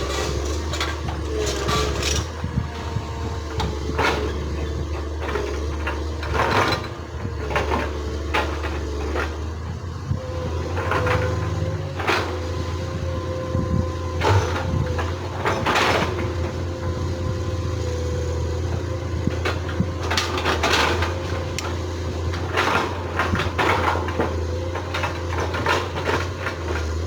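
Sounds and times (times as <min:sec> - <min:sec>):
diesel engine running: 0:00.0 - 0:27.0
excavator digging clanks and scrapes: 0:00.0 - 0:27.0.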